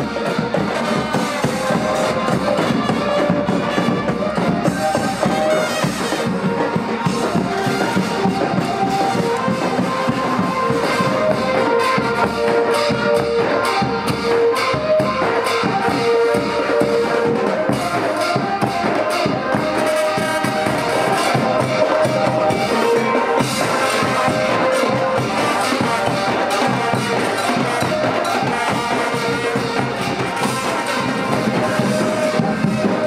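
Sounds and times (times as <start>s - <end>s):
brass band horns melody: 0.0s - 33.0s
drums and percussion beat: 0.0s - 33.0s.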